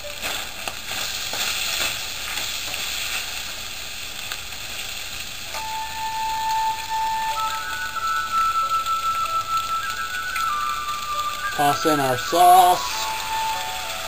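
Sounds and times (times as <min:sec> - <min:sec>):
food sizzling in a wok: 0:00.0 - 0:14.0.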